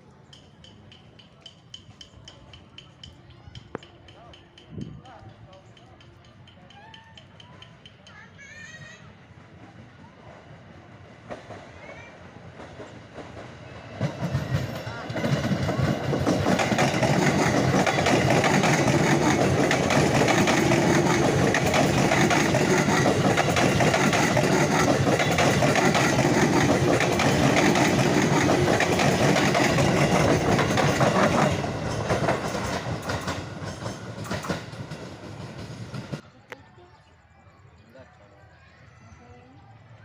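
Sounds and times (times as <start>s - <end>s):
train wheels rumbling on rails: 0.0s - 36.5s.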